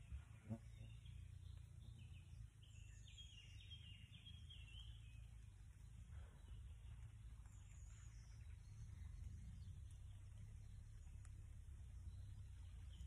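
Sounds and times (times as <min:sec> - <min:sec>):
bird singing: 0:00.0 - 0:13.0
low background rumble: 0:00.0 - 0:13.0.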